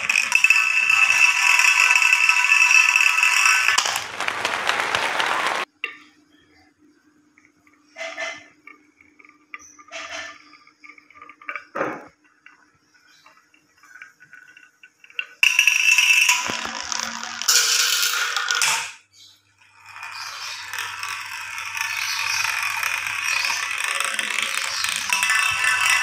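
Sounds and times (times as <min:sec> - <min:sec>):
marble rattling along plastic track: 0:00.0 - 0:05.7, 0:08.0 - 0:19.0, 0:19.6 - 0:26.0.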